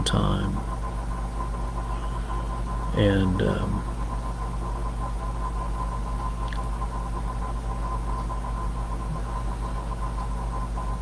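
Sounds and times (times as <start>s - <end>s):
faint high whine and hiss: 0.0s - 11.0s
low hum: 0.0s - 11.0s.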